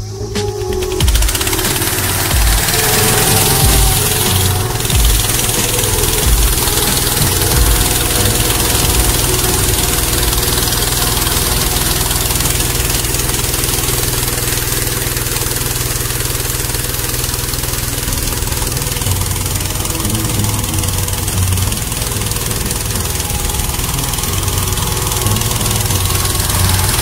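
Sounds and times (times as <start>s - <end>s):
engine-driven fan running: 0.0s - 27.0s.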